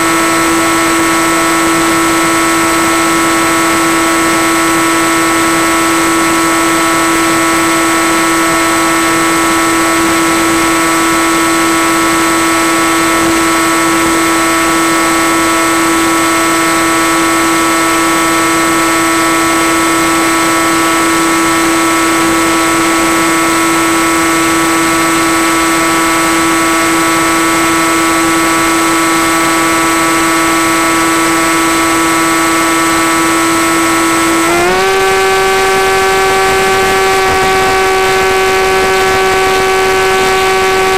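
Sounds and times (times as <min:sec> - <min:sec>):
model plane motor humming: 0:00.0 - 0:40.9.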